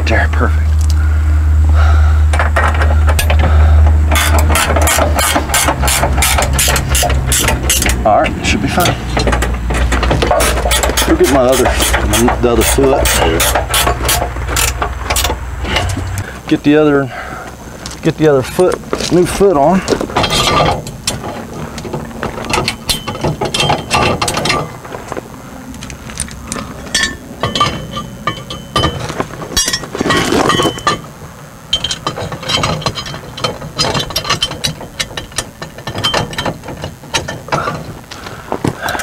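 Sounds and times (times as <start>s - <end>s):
metal clanking and rattling: 2.3s - 16.2s, 18.4s - 25.1s, 26.1s - 38.0s.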